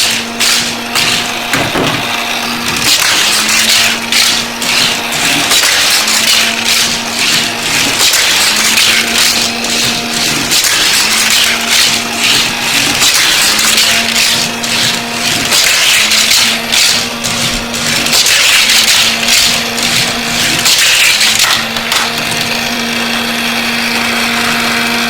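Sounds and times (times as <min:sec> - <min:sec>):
plastic toy cars rattling: 0:00.0 - 0:22.7
small motor humming: 0:00.0 - 0:25.0.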